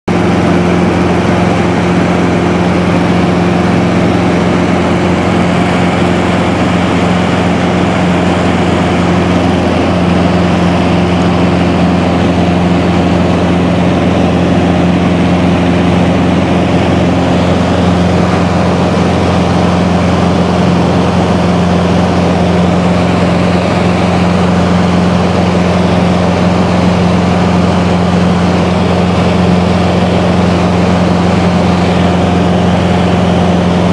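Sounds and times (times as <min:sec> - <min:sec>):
light aircraft engine drone: 0:00.1 - 0:33.9.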